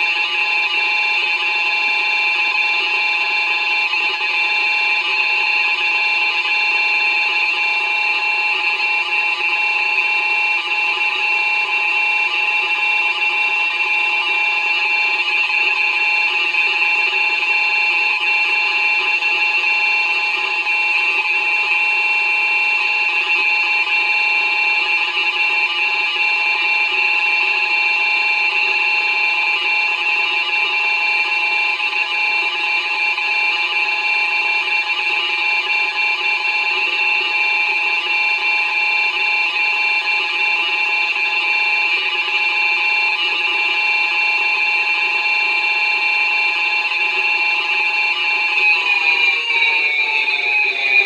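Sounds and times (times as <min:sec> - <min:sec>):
electronic siren steady tone: 0:00.0 - 0:51.0.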